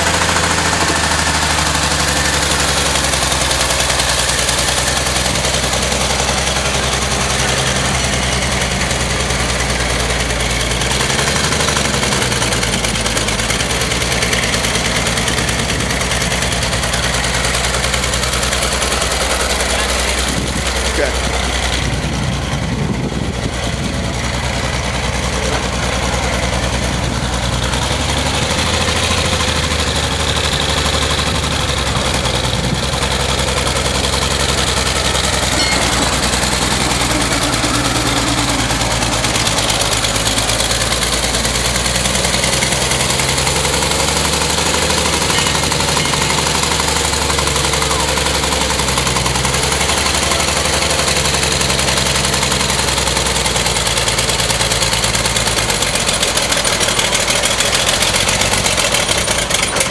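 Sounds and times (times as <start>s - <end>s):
truck engine running at low speed: 0.0s - 59.9s.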